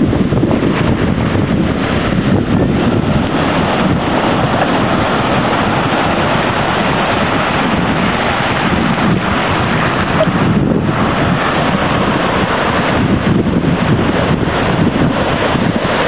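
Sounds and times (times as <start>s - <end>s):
ocean surf breaking: 0.0s - 16.0s
wind noise on microphone: 0.0s - 16.0s.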